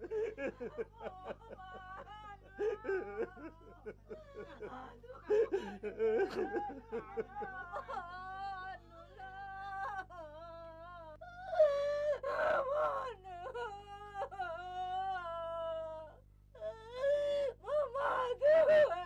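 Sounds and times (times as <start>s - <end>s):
woman wailing in grief: 0.0s - 10.7s, 11.4s - 19.0s
woman sobbing: 0.0s - 19.0s.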